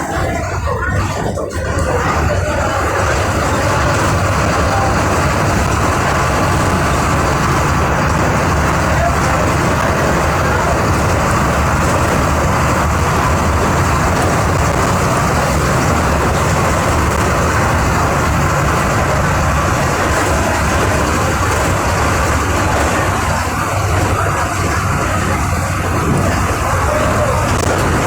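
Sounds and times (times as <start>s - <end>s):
diesel bus engine running: 0.0s - 28.0s.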